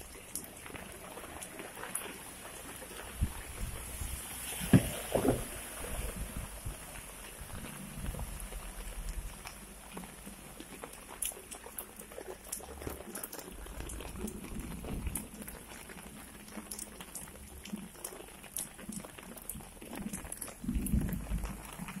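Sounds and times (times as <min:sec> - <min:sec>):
heavy rain on flooded street: 0:00.0 - 0:22.0.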